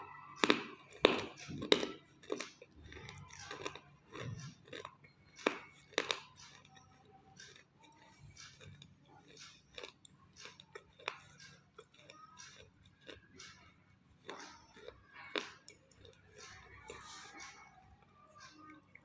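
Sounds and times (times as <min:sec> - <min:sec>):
person crunching and chewing: 0:00.3 - 0:17.8.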